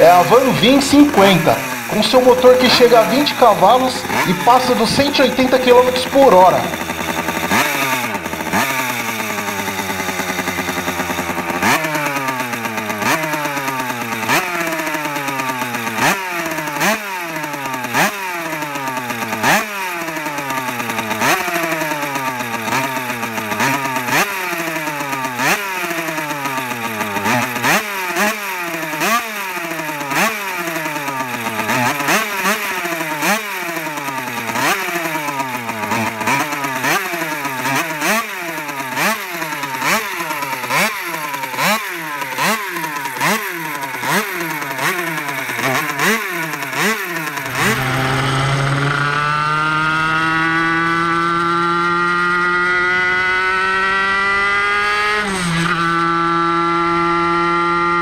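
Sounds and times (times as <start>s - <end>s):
two-stroke motorcycle revving: 0.0s - 58.0s.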